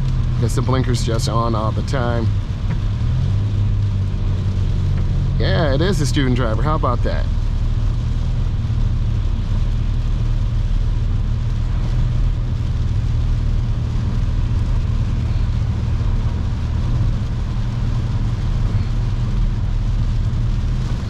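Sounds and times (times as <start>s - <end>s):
road and tyre noise in car: 0.0s - 21.0s.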